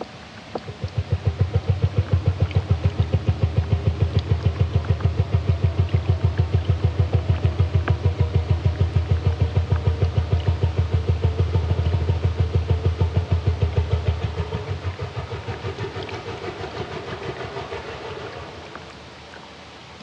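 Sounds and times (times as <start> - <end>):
whale song deep pulses: 0.0 - 19.5
faint rough noise: 0.0 - 20.0.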